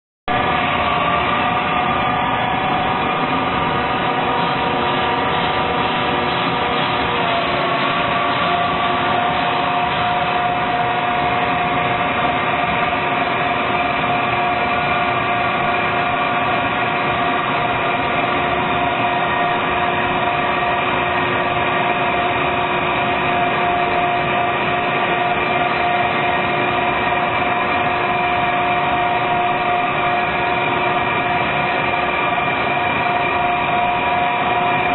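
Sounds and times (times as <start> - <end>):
grinding machine whining: 0.3 - 34.9.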